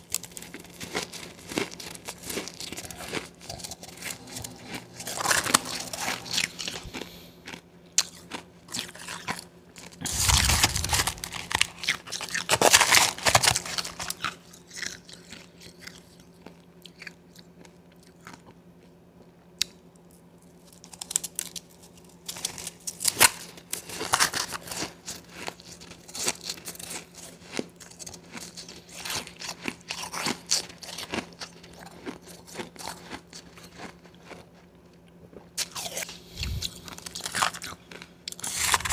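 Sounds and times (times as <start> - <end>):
ice being chewed: 0.0 - 18.9, 19.6 - 38.9.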